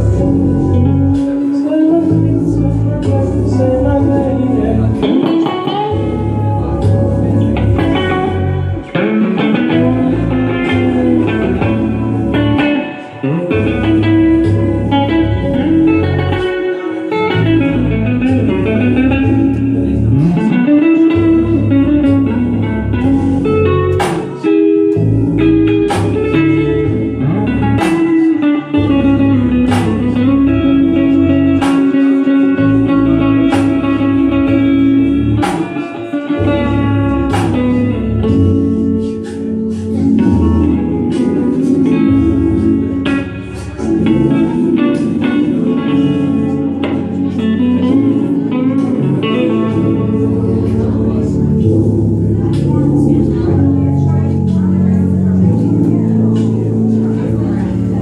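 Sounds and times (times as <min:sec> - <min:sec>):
backing beat with deep bass: 0:00.0 - 0:58.0
electric guitar solo: 0:00.0 - 0:58.0.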